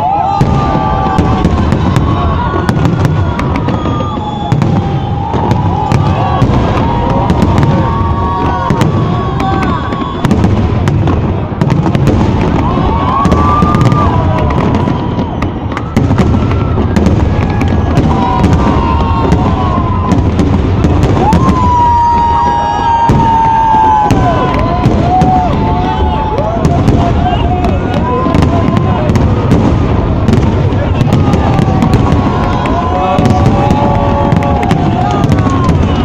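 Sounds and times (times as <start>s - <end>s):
fireworks booming and crackling: 0.0s - 36.0s
fireworks whistling: 0.0s - 36.0s.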